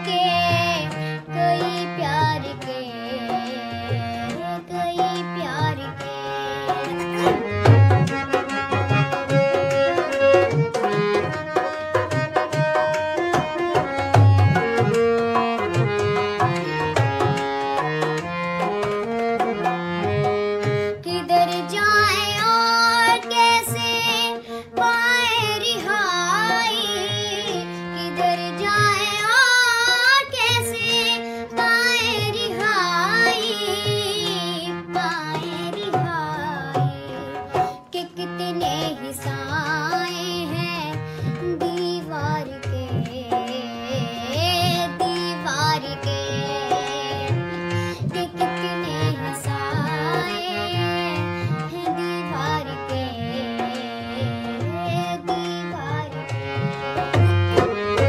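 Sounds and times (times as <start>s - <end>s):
tabla: 0.0s - 58.0s.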